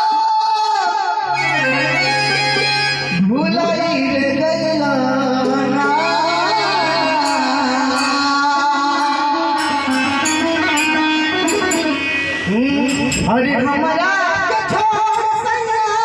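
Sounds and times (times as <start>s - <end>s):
man singing into a microphone: 0.0s - 16.0s.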